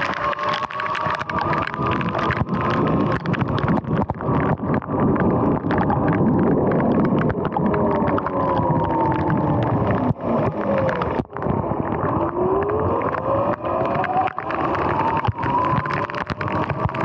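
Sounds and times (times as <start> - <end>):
raindrops ticking on camera: 0.0 - 17.0
wind on microphone: 0.0 - 17.0.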